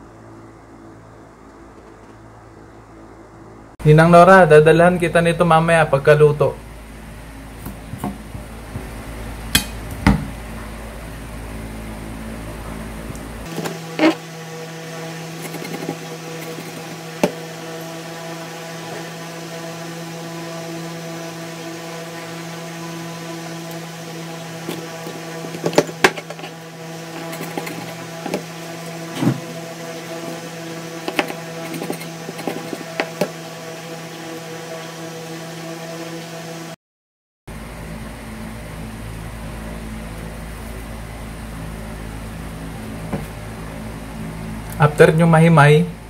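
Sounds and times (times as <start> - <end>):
steady hum: 0.0 - 36.8, 37.5 - 46.0.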